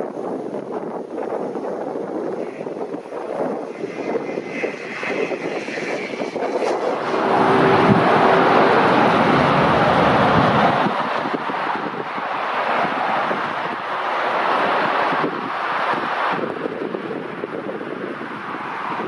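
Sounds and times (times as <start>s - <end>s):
propeller aircraft flying overhead: 2.6s - 19.0s.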